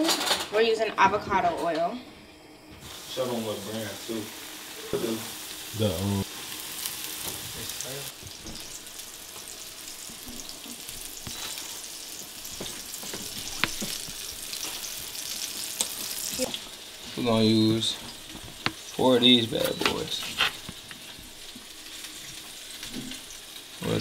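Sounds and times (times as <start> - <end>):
batter frying in oil: 2.6 - 24.0.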